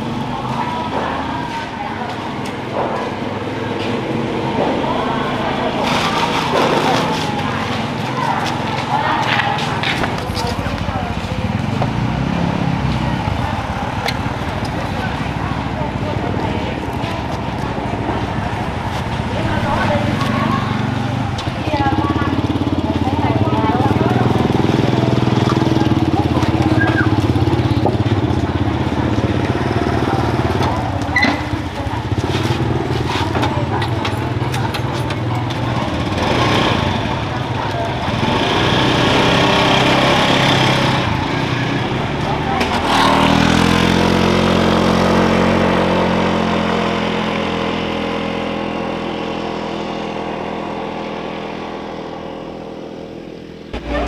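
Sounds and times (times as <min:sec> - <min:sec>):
small motorcycle engine running: 0:00.0 - 0:54.0.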